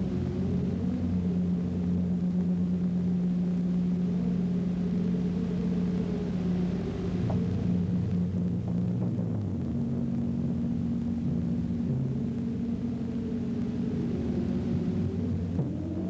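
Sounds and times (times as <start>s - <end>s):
low droning music: 0.0s - 16.0s.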